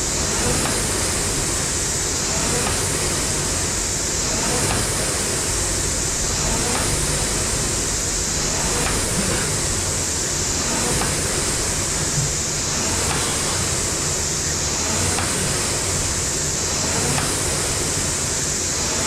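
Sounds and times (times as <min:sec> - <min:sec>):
rowing machine fan whooshing: 0:00.0 - 0:19.0.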